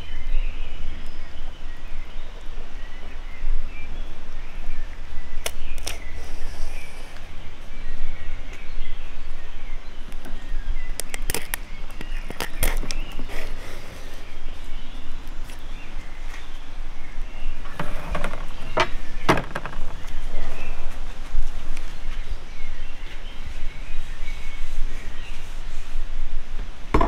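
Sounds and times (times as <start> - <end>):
faint bird chirps: 0.0 - 25.9.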